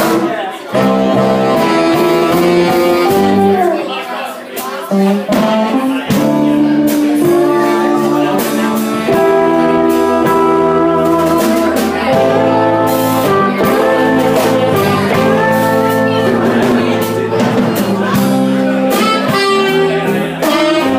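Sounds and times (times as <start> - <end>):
live band playing: 0.0 - 20.9.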